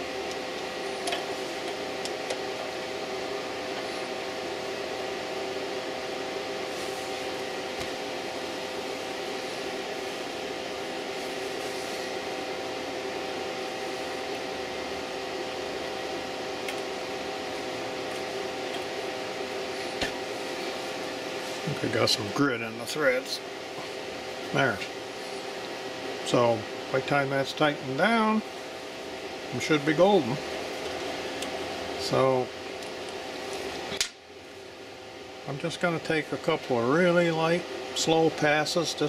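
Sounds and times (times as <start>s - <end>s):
mechanical hum and hiss: 0.0s - 39.0s.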